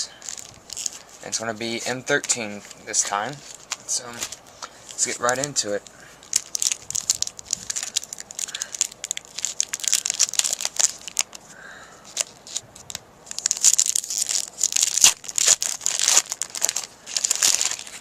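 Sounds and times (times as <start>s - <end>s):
foil wrapper tearing and crinkling: 0.2s - 1.4s, 3.3s - 11.4s, 12.1s - 18.0s.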